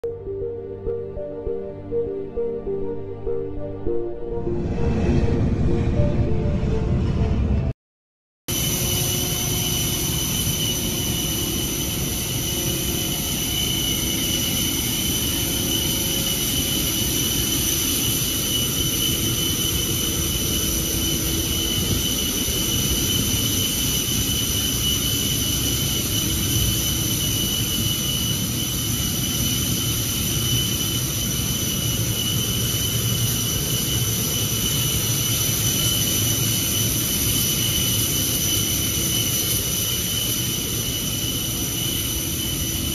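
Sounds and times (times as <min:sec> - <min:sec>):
jet turbine rushing and whining: 0:08.5 - 0:42.9.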